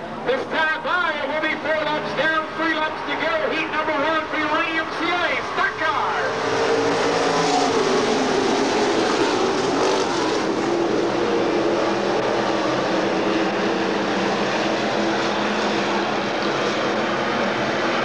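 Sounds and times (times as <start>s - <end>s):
stock car engines racing: 0.0s - 18.0s.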